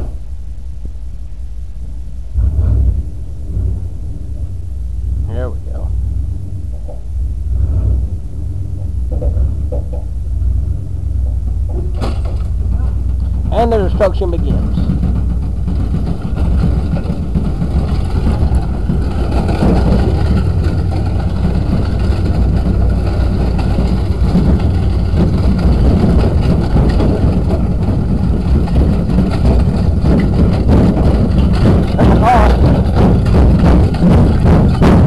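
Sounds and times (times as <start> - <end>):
road rumble: 0.0 - 35.0
truck engine running: 0.0 - 35.0.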